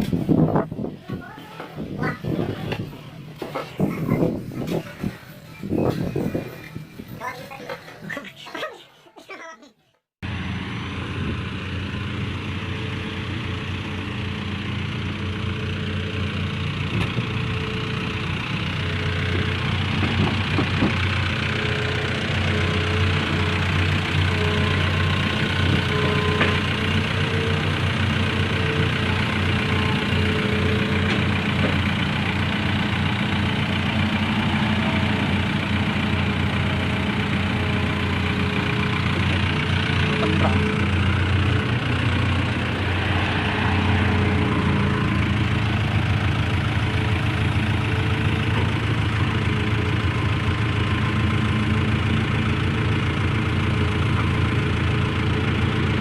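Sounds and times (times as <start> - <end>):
engine running steadily: 10.2 - 56.0.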